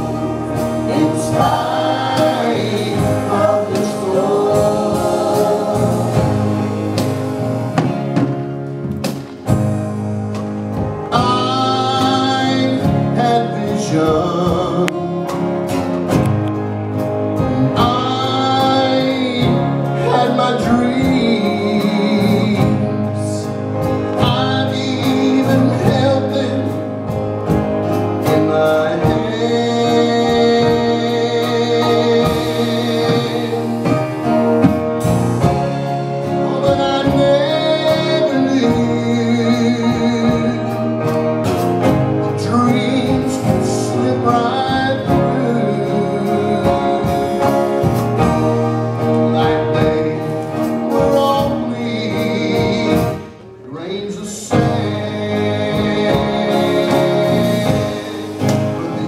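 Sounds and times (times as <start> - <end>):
vocal group singing gospel: 0.0 - 8.2, 11.1 - 15.3, 17.4 - 27.2, 27.9 - 59.0
acoustic guitar: 0.0 - 59.0.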